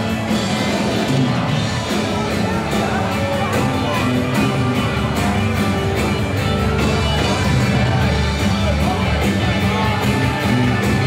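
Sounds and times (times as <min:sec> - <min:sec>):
rock and roll guitar: 0:00.0 - 0:11.0
steady drum beat: 0:00.0 - 0:11.0.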